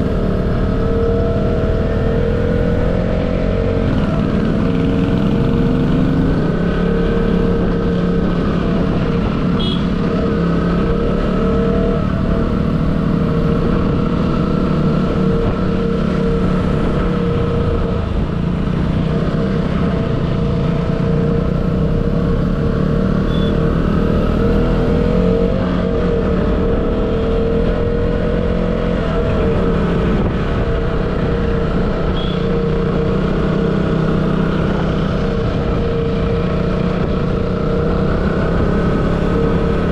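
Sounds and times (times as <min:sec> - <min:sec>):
motorcycle engine running: 0:00.0 - 0:39.9
road and wind rumble: 0:00.0 - 0:39.9.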